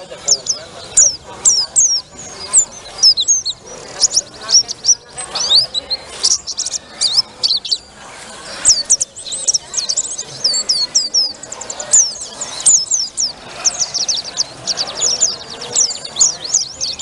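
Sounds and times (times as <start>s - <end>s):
bird twittering song: 0.0s - 17.0s
faint murmur of voices: 0.0s - 17.0s.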